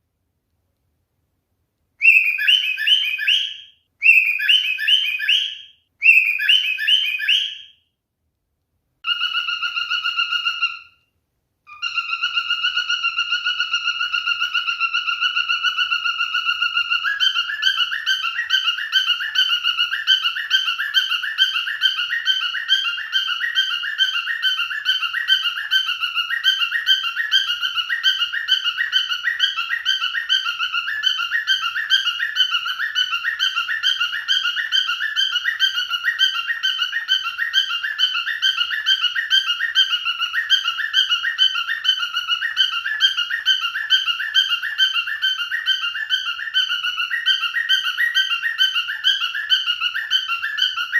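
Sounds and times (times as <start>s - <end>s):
cockatiel whistling: 2.0s - 7.8s, 9.1s - 11.0s, 11.7s - 50.9s.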